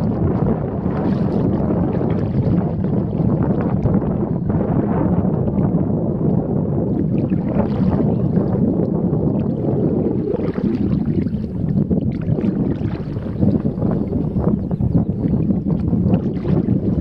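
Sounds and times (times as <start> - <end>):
river water around kayak: 0.0 - 17.0
wind noise on microphone: 0.0 - 17.0.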